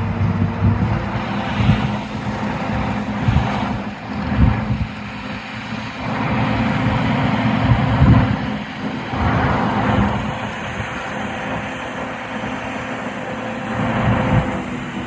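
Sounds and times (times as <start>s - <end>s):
diesel engine drone: 0.0s - 15.0s
rushing mechanical noise: 0.0s - 15.0s.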